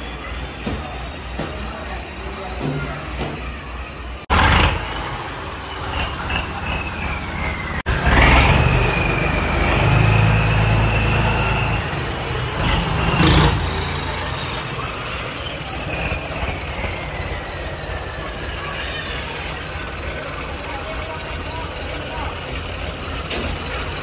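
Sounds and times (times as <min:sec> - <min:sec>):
tractor diesel engine revving: 0:00.0 - 0:24.0.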